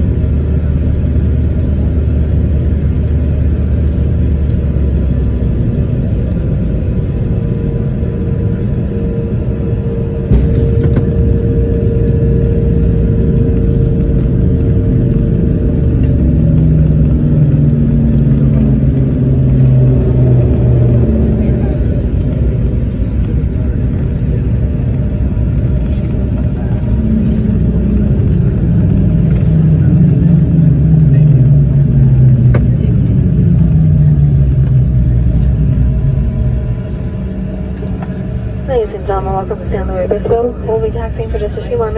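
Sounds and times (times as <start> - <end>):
airliner cabin low rumble: 0.0 - 41.9
low drone: 0.0 - 41.9
steady hum: 0.0 - 41.9.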